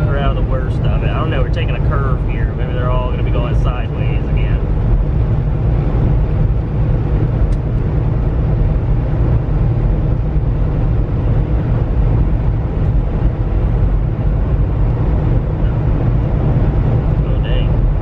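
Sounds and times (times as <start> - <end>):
road noise: 0.0 - 18.0
truck engine rumble: 0.0 - 18.0.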